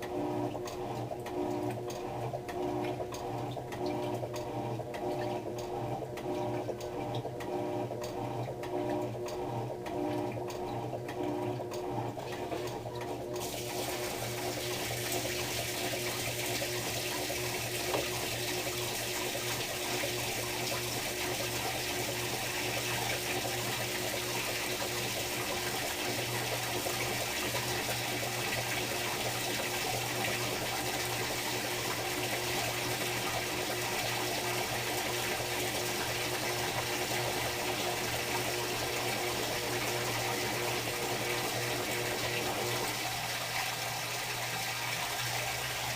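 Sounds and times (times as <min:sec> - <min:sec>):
water rushing through washing machine: 0:00.0 - 0:45.9.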